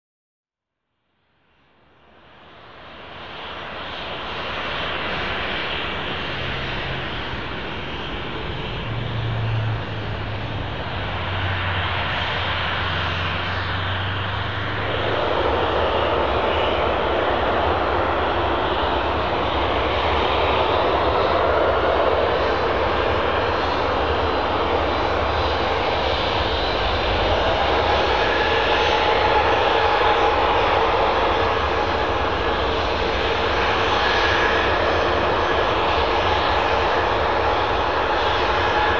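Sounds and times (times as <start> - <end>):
faint engine whine: 1.7 - 38.9
jet engines running: 2.2 - 38.9.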